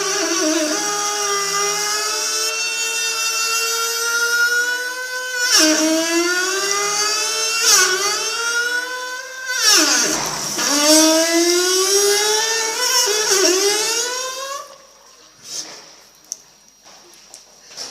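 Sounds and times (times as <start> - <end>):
plumbing whining: 0.0 - 15.0.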